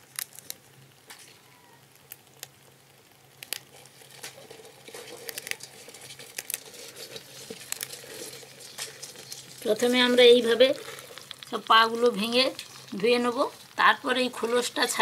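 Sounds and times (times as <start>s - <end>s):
crabs scratching on steel bowl: 0.0s - 15.0s.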